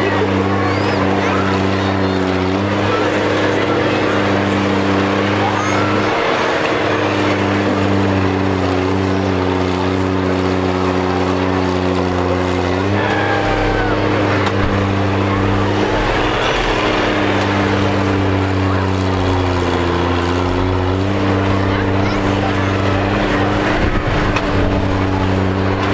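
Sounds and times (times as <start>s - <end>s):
combine harvester engines droning: 0.0s - 25.9s.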